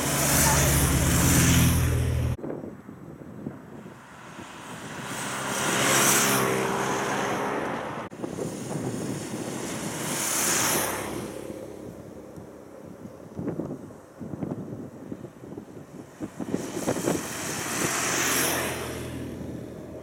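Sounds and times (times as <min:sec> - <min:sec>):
cars driving past: 0:00.0 - 0:02.4, 0:03.6 - 0:14.2, 0:15.2 - 0:20.0.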